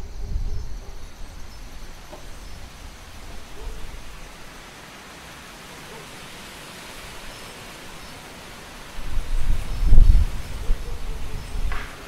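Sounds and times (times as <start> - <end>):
wind blowing: 0.0 - 12.0.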